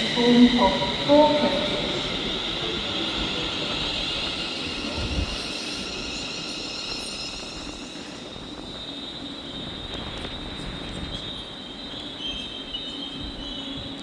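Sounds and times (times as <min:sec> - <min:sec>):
electric train hiss and whine: 0:00.0 - 0:14.0.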